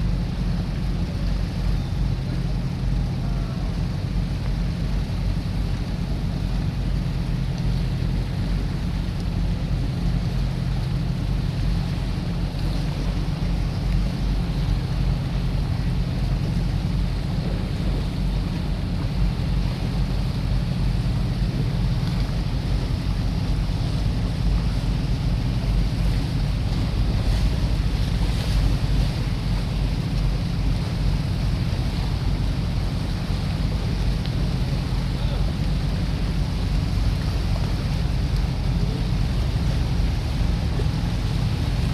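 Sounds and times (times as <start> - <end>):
boat engine droning: 0.0 - 41.9
water rushing past: 0.0 - 41.9
wind buffeting microphone: 0.0 - 41.9.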